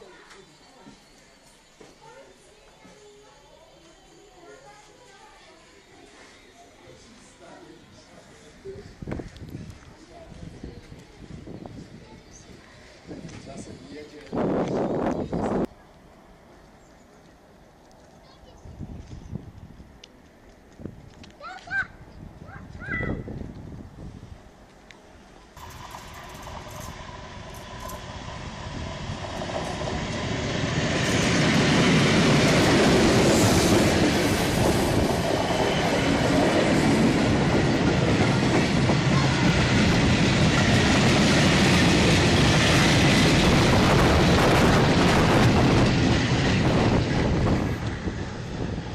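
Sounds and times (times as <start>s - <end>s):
train running on rails: 0.0s - 48.9s.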